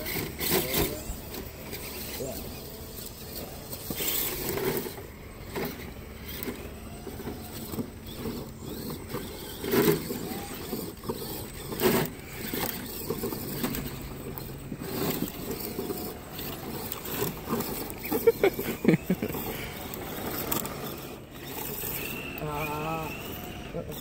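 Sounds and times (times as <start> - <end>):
toy truck motors whirring: 0.0 - 24.0.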